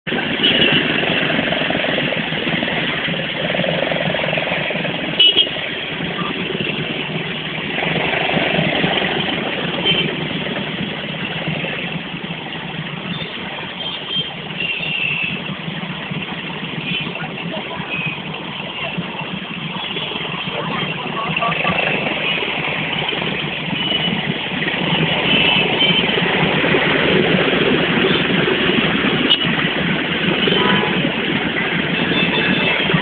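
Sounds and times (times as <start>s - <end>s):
motorbike engines idling in traffic: 0.1s - 33.0s.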